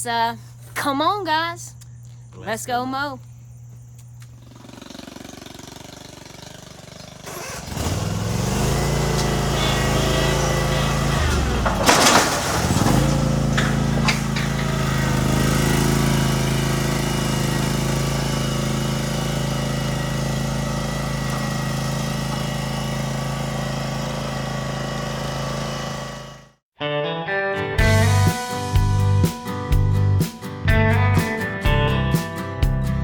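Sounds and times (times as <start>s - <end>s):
lawn mower engine running: 4.2s - 26.6s, 27.8s - 32.2s.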